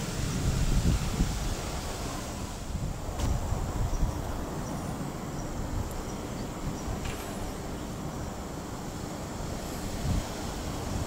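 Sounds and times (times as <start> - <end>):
distant vehicles rumbling: 0.0 - 11.0
wind on microphone: 0.0 - 11.0.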